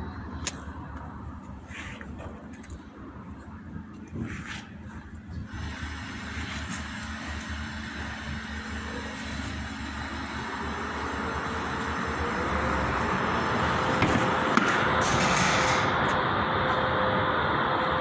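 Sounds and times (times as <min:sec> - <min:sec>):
motor vehicle running: 0:00.0 - 0:18.0.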